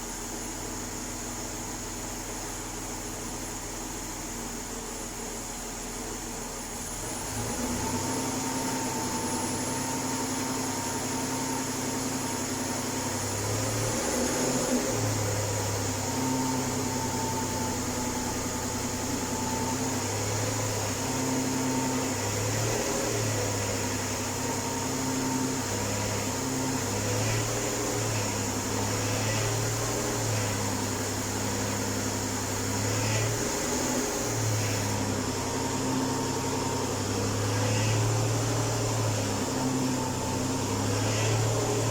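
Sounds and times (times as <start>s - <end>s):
car engine humming: 4.6s - 41.9s.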